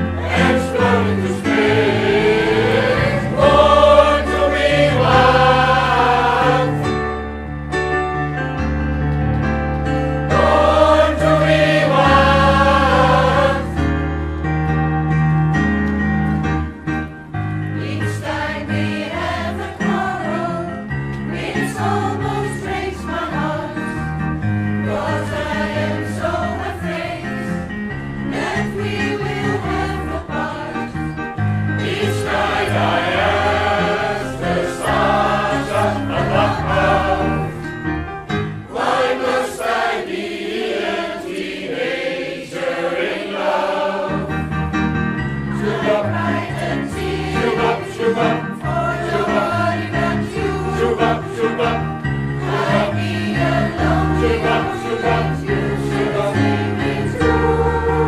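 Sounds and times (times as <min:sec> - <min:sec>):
choir singing: 0:00.0 - 0:07.0, 0:10.2 - 0:14.0, 0:17.8 - 0:24.1, 0:24.8 - 0:27.7, 0:28.3 - 0:31.1, 0:31.7 - 0:44.6, 0:45.4 - 0:58.0.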